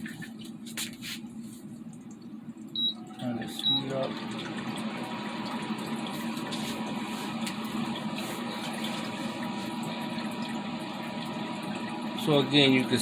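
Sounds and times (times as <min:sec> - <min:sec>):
fan whirring: 0:00.0 - 0:13.0
water pump circulating water: 0:00.0 - 0:13.0.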